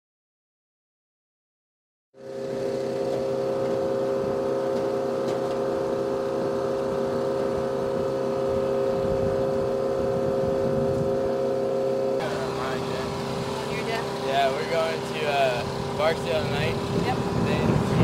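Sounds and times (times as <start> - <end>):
engine drone with low rumble: 2.2 - 18.0.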